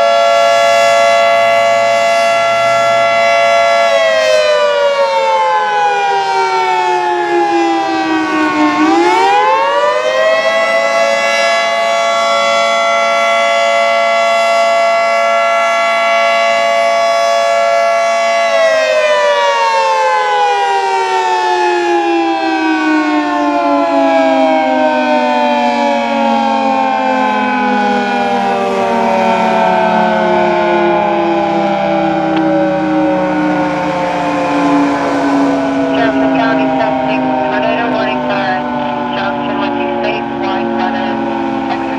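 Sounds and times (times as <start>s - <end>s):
fire siren wailing: 0.0s - 41.9s.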